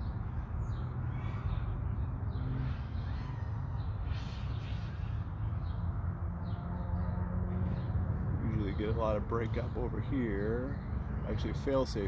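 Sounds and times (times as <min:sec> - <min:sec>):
harsh bird calls: 0:00.0 - 0:12.0.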